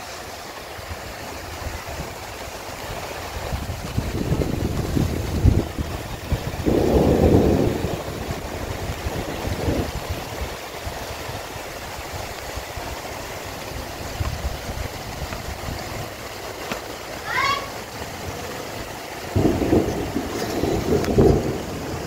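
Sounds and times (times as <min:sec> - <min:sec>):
rain hissing: 0:00.0 - 0:22.0
wind buffeting microphone: 0:00.8 - 0:16.7, 0:18.8 - 0:22.0.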